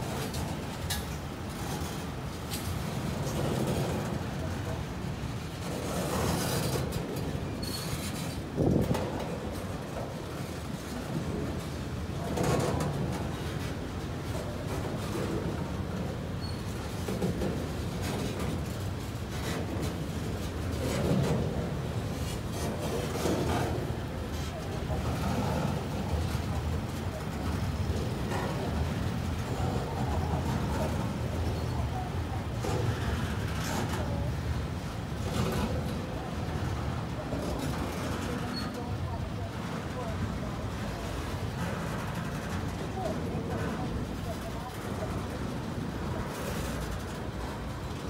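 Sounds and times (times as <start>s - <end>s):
freight train wheels rumbling on rails: 0.0s - 48.0s.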